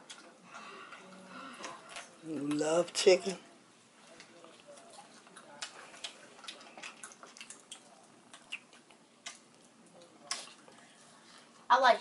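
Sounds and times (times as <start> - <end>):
chewing and lip-smacking: 0.0 - 3.0, 4.0 - 11.5.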